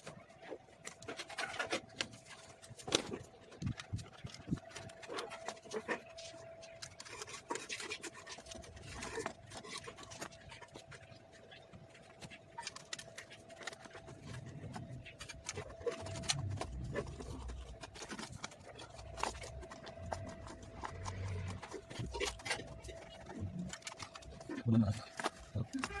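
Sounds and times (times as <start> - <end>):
faint steady hum: 0.0 - 26.0
tools scraping and rubbing: 0.8 - 26.0.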